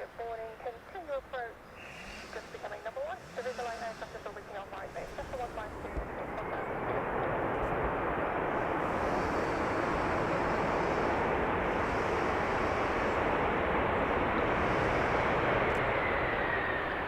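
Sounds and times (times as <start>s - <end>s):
aircraft engine rushing: 0.9s - 17.0s.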